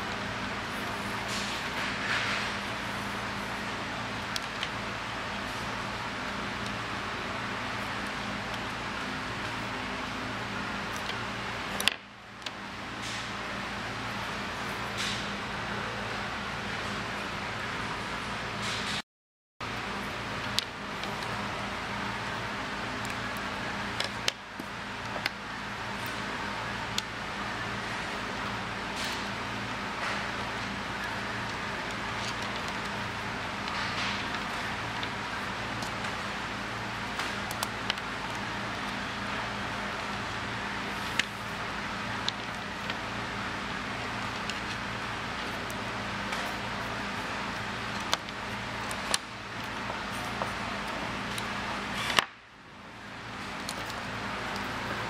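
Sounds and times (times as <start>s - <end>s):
steady low hum and hiss: 0.0s - 19.0s, 19.6s - 55.0s.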